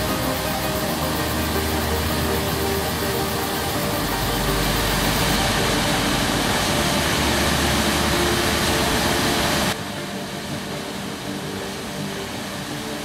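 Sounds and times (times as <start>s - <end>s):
waterfall and rapids roaring: 0.0s - 13.0s.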